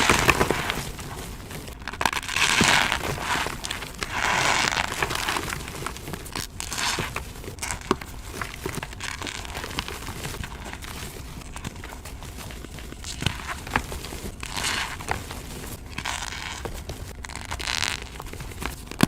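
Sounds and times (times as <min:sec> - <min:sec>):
chalk crumbling with crackles: 0:00.0 - 0:19.0.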